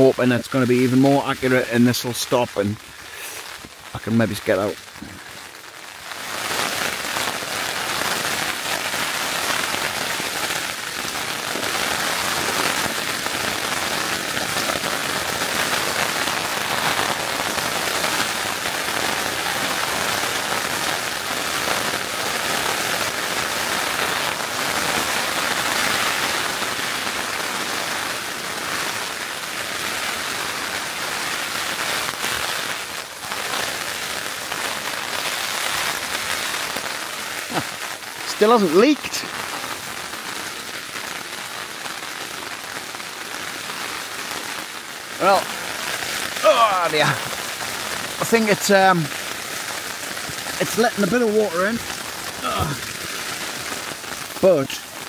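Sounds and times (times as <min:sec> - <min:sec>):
heavy rain on tent: 0:00.0 - 0:55.0.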